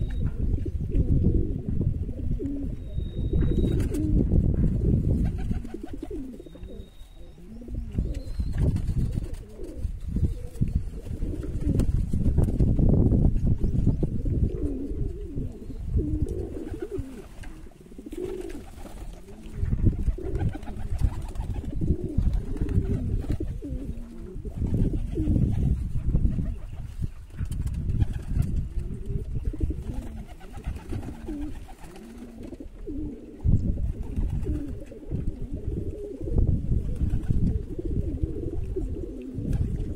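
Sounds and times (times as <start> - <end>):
pigeons cooing: 0.0 - 11.9, 13.8 - 39.9.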